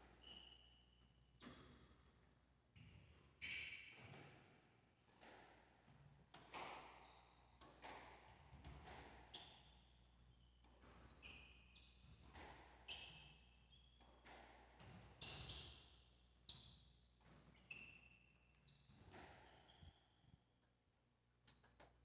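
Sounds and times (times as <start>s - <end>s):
squash ball hitting rackets and walls: 0.0s - 19.9s.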